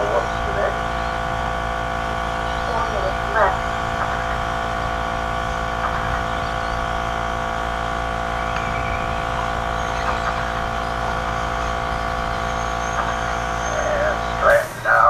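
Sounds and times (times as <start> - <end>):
constant hum: 0.0 - 15.0
rc trucks mechanical buzz: 0.0 - 15.0.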